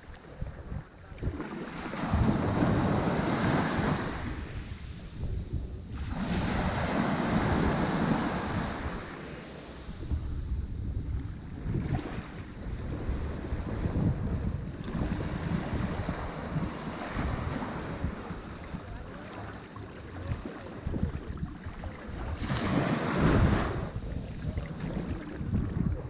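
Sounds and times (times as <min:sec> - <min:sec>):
wave breaking: 0:01.2 - 0:14.2, 0:14.8 - 0:26.0
ocean surf washing on shore: 0:01.2 - 0:26.0.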